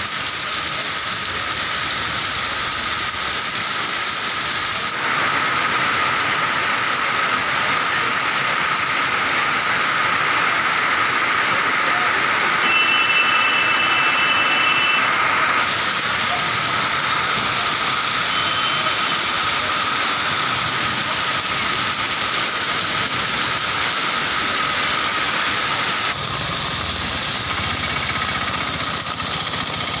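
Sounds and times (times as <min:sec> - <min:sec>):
heavy rain on pavement: 0:00.0 - 0:30.0.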